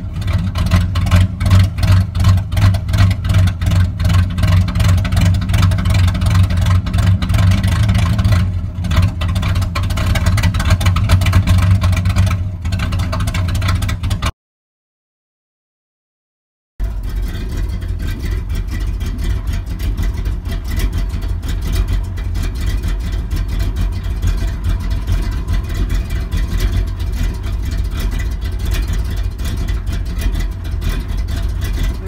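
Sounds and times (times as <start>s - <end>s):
engine idling: 0.0s - 14.3s, 16.8s - 32.0s.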